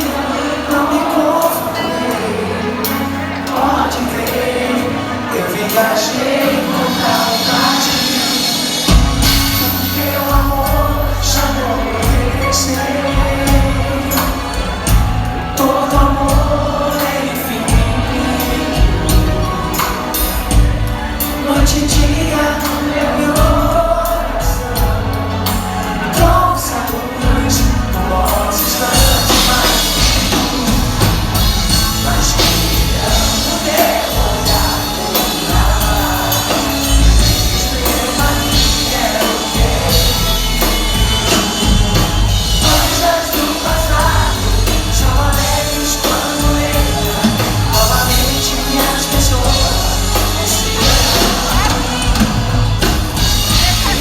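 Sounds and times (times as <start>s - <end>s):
bass guitar: 0.0s - 54.0s
drums: 0.0s - 54.0s
person singing: 0.0s - 54.0s
pop-rock band playing: 0.0s - 54.0s.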